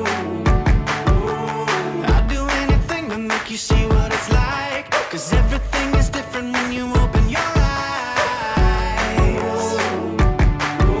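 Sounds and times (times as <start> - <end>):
song with beat and singing: 0.0 - 11.0.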